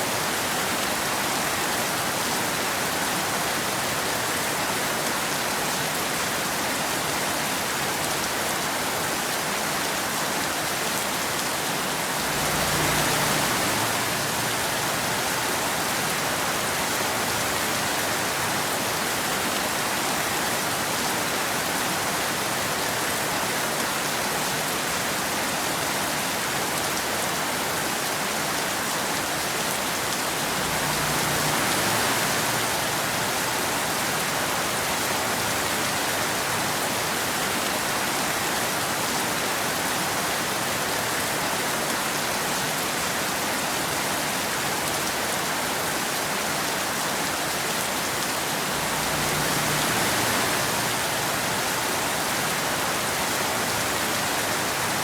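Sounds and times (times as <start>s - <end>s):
rain pattering on hard surface: 0.1s - 55.0s.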